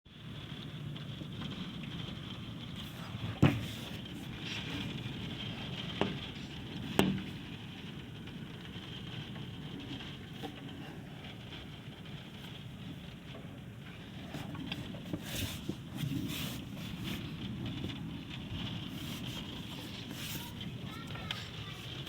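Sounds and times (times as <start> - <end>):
rain pattering in wind: 0.1 - 22.0.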